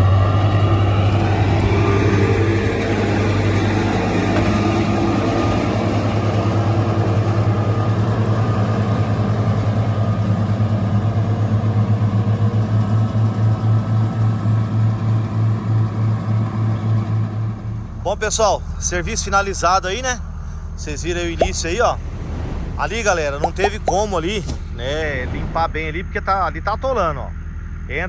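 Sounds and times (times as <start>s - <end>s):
diesel engine throbbing: 0.0s - 26.4s.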